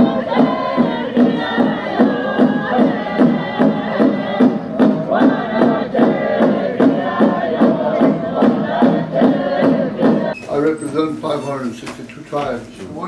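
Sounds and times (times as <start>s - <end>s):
people singing: 0.0s - 10.7s
steady drumbeat: 0.0s - 13.0s.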